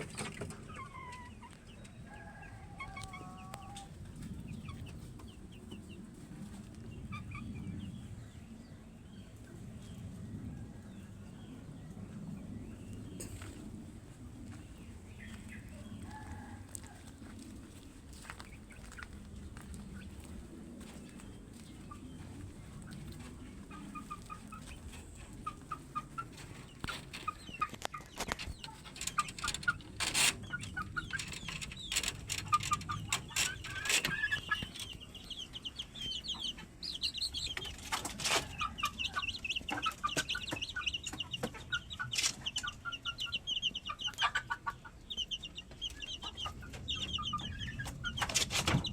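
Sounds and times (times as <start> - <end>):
chickens clucking: 0.0 - 8.2, 10.7 - 48.9.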